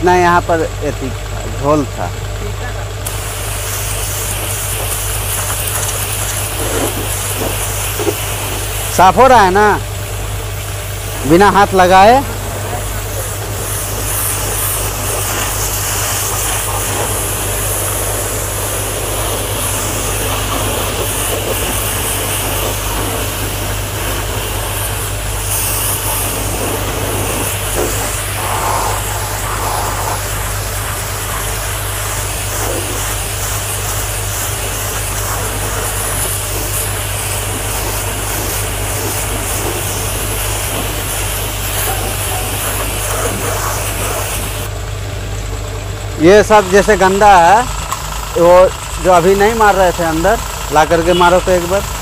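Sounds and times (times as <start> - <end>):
pressure washer motor hum: 0.0 - 52.0
water jet hissing on car: 1.6 - 44.8, 46.2 - 52.0.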